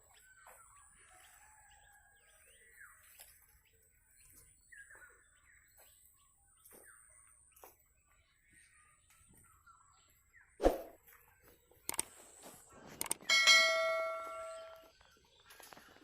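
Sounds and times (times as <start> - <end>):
small birds chirping: 0.0 - 13.4, 14.3 - 16.0.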